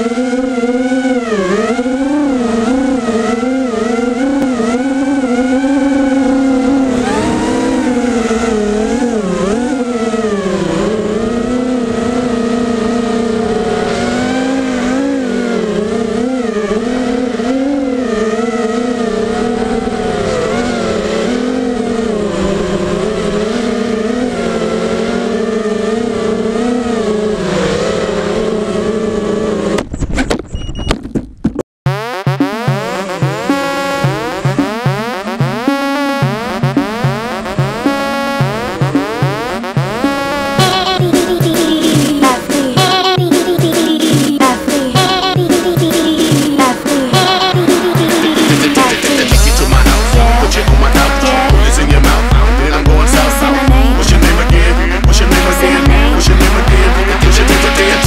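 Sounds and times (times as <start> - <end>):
drone motors whining: 0.0 - 30.0, 31.9 - 58.0.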